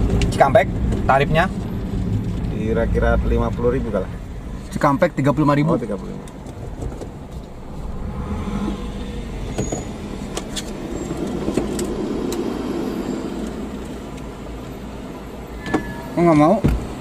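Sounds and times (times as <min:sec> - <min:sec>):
vehicle engine rumble from cabin: 0:00.0 - 0:15.7.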